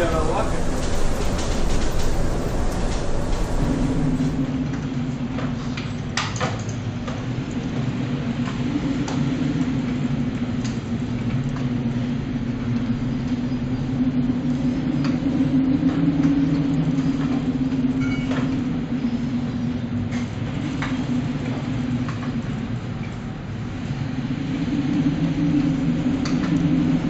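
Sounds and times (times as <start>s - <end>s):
ship engine drone: 0.0s - 5.9s, 7.3s - 27.0s
wind and sea rushing: 0.0s - 6.2s, 6.8s - 27.0s.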